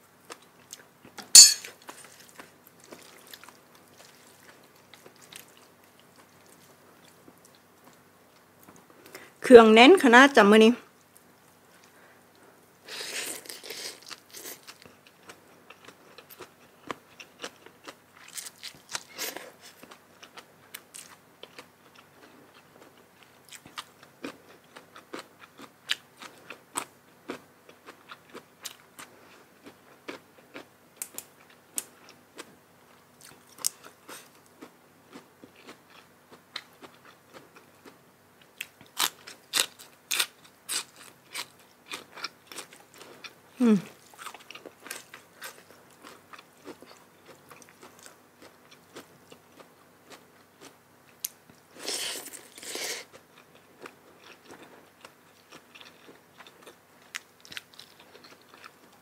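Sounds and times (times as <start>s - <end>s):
crunching and chewing food: 0.1s - 9.4s, 11.0s - 59.0s.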